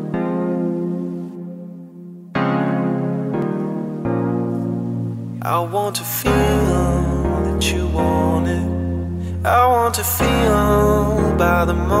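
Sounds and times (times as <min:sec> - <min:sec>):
sustained keyboard chord: 0:00.0 - 0:12.0.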